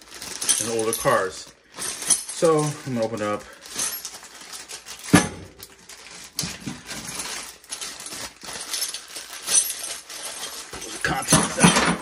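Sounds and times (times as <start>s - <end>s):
plastic bag tearing and crinkling: 0.0s - 11.2s.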